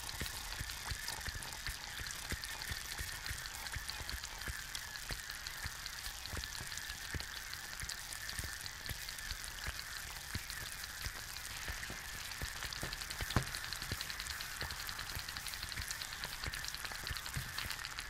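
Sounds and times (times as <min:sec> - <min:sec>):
egg sizzling in a pan: 0:00.0 - 0:18.0
small pops and crackles: 0:00.0 - 0:18.0.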